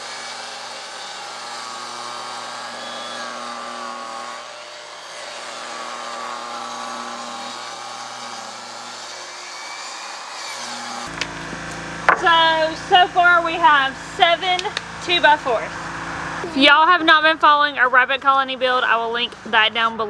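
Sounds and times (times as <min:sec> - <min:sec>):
table saw cutting wood: 0:00.0 - 0:17.6.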